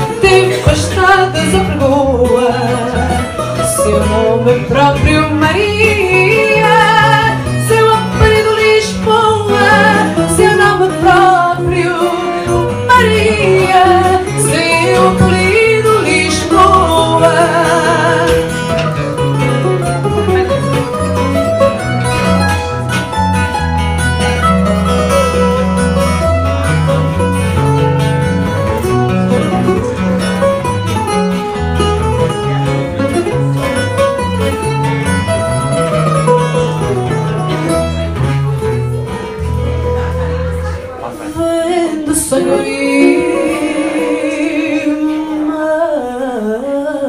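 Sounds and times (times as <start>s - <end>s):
picked guitar melody: 0.0s - 47.0s.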